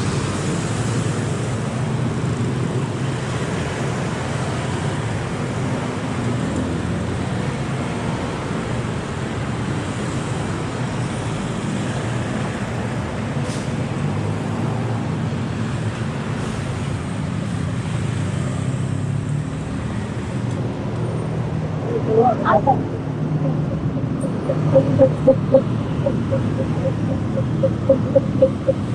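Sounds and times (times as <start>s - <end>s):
road traffic rumble: 0.0s - 28.9s.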